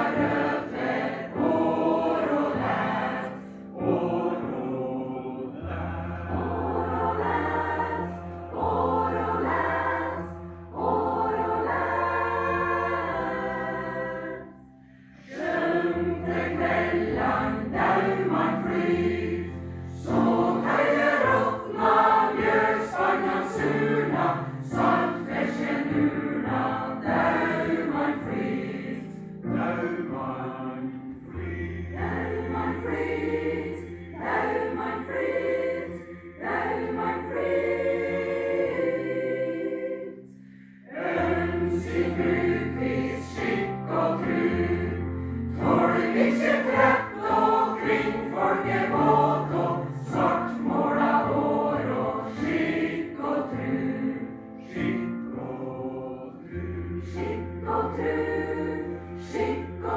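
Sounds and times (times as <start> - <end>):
mixed choir singing slow song: 0.0 - 59.9.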